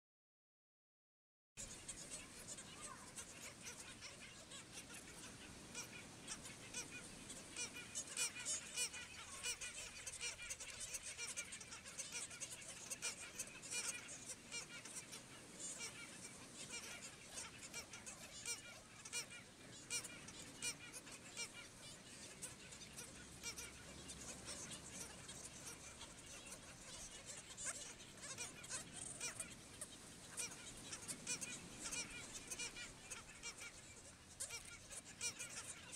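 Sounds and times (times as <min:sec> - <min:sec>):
birds honking calls: 0:01.6 - 0:35.9.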